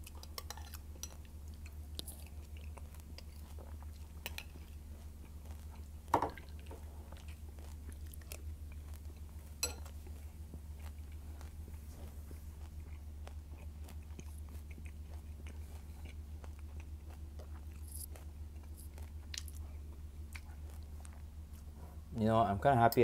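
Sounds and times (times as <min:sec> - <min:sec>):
chewing and crunching cereal: 0:00.0 - 0:23.0.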